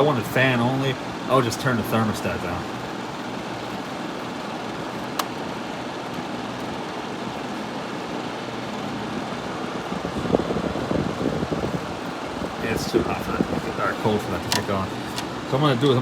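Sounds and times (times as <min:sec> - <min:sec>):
air conditioner fan blowing: 0:00.0 - 0:16.0.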